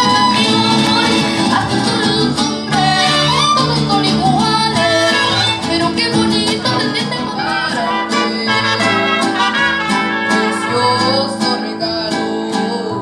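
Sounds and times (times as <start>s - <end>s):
mariachi band playing: 0.0s - 13.0s.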